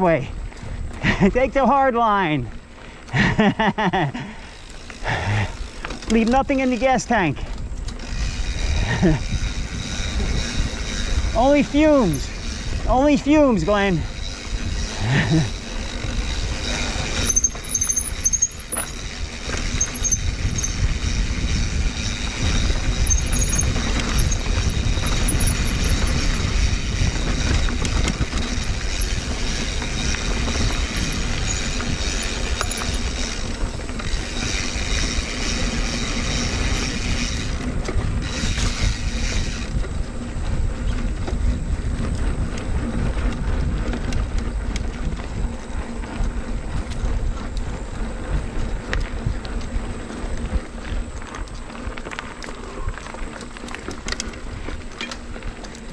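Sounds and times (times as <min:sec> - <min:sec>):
bike clicks and rattles: 0:00.0 - 0:55.9
wind and tyre rumble: 0:00.0 - 0:55.9.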